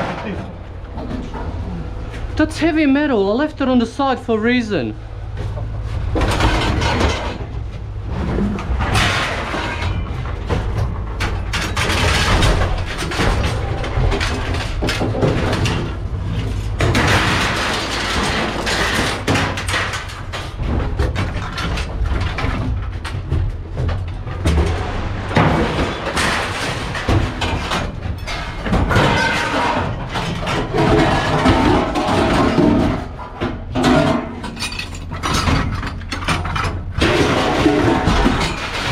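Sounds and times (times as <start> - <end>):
scrap metal thumps and clatter: 0.0 - 2.7, 5.0 - 38.9.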